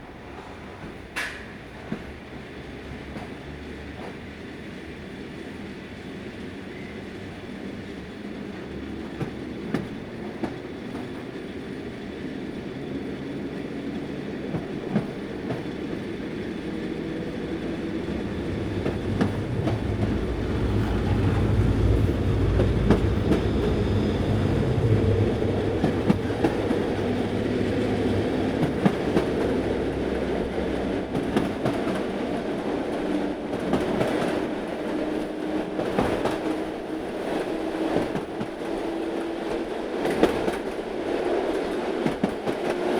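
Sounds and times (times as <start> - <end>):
train rumbling on rails: 0.0 - 42.9.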